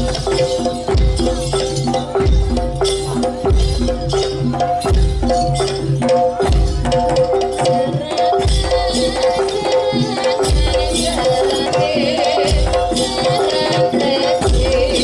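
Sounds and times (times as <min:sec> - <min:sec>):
gamelan melodic tones: 0:00.0 - 0:15.0.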